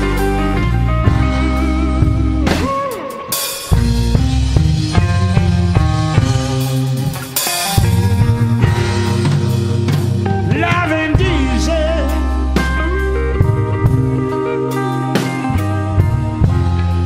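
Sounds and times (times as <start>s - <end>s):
blues rock band playing: 0.0s - 17.0s
wavering electric guitar lead: 0.0s - 17.0s.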